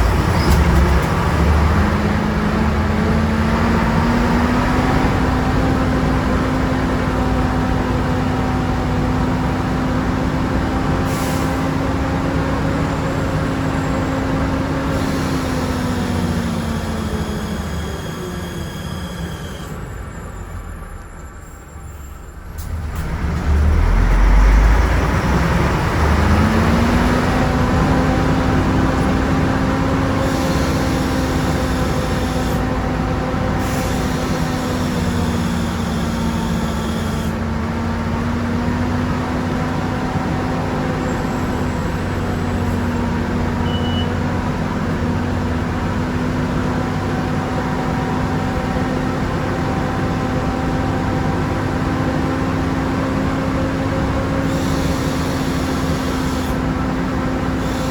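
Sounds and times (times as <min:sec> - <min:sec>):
diesel bus engine pulling away: 0:00.0 - 0:57.9.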